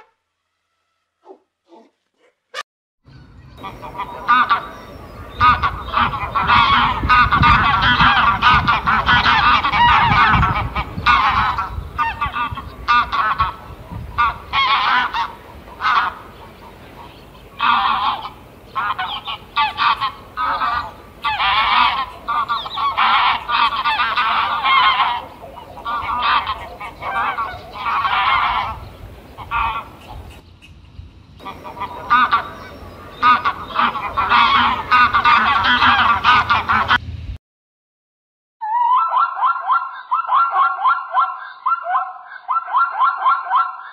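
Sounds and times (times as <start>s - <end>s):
geese honking: 3.1s - 37.0s, 38.7s - 43.9s.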